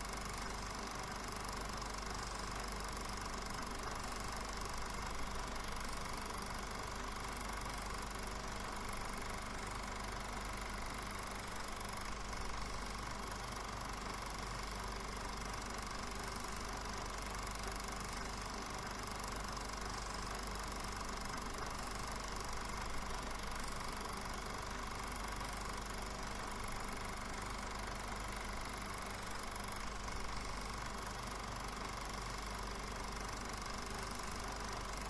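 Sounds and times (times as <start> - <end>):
film projector whirring: 0.0 - 35.0.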